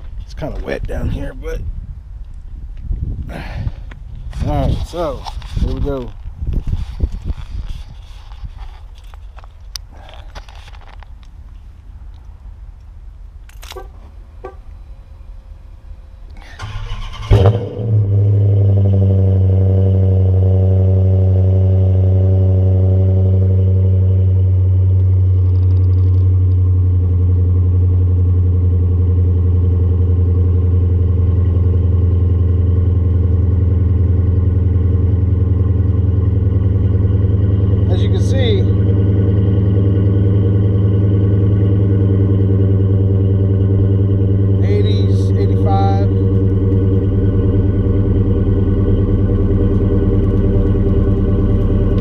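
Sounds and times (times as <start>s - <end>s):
car engine starting and idling: 4.3s - 52.0s.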